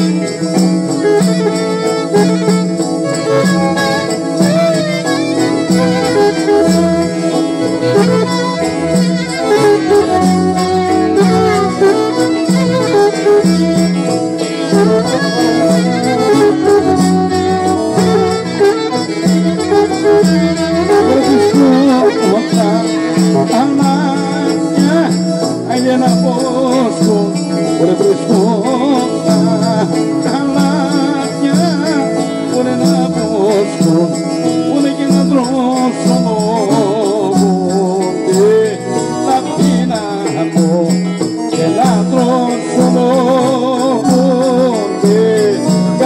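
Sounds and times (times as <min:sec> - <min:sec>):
folk music: 0:00.0 - 0:46.0.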